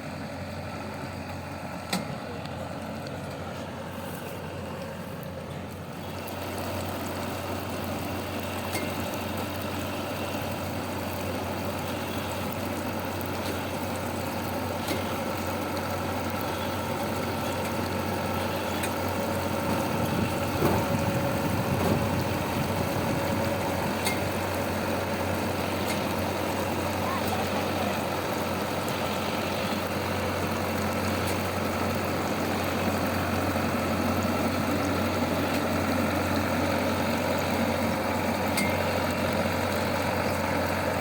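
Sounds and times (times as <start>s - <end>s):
harvester engine running: 0.0s - 41.0s.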